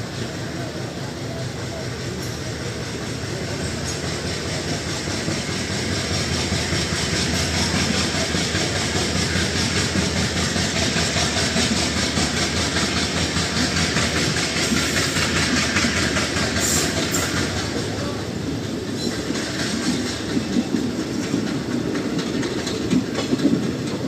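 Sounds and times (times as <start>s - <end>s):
diesel locomotive chugging: 0.0s - 24.0s.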